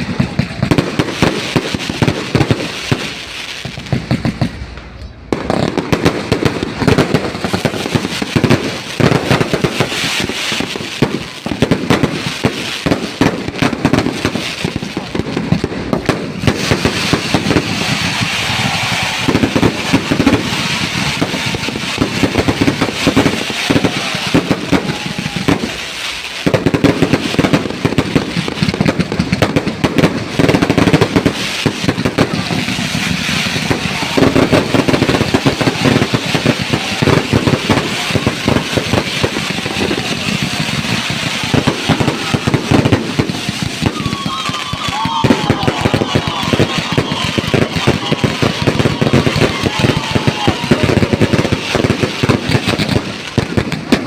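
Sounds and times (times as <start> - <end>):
crowd voices: 0.0 - 54.0
fireworks bangs and crackles: 0.0 - 54.0.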